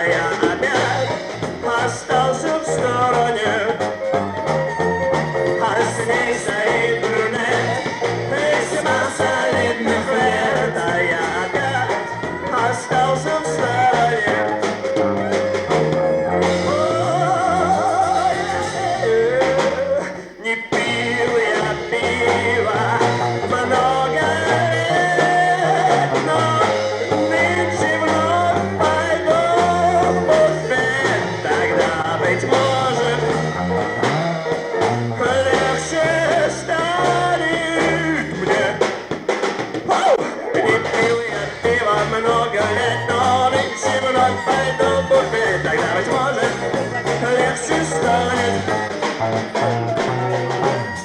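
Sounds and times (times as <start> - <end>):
bending lead guitar: 0.0 - 51.0
rock band playing: 0.0 - 51.0.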